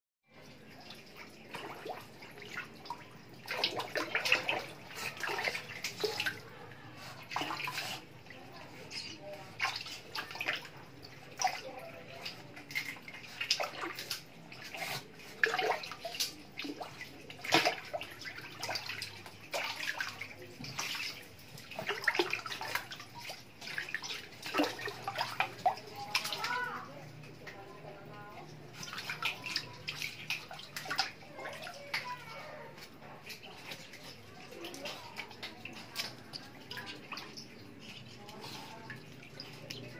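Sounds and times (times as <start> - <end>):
otter splashing in shallow water: 0.4 - 39.9.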